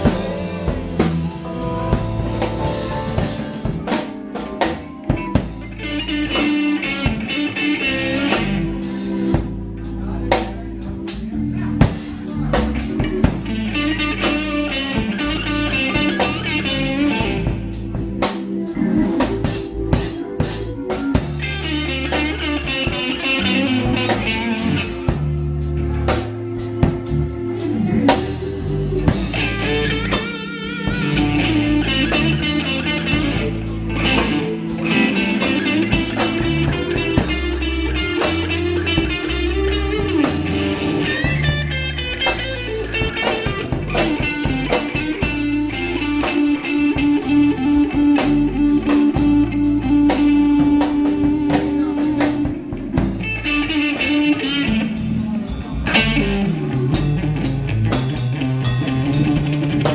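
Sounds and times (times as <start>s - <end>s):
bass line: 0.0s - 59.9s
drum kit beat: 0.0s - 59.9s
electric guitar lead lines: 0.0s - 59.9s.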